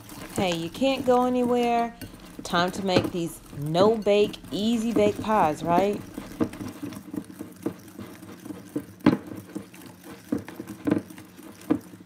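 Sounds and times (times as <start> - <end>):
whisk stirring wet mixture: 0.0 - 12.0.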